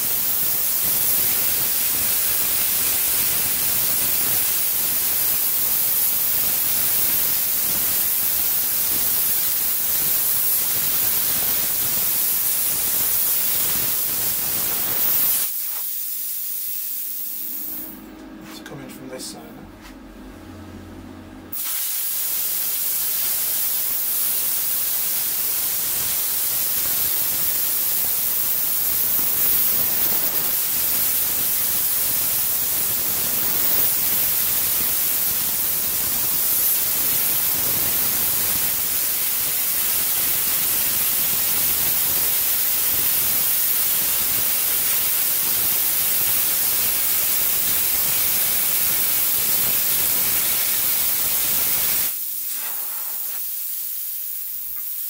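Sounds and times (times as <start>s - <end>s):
plasma cutter hissing: 0.0s - 18.0s, 21.5s - 55.0s.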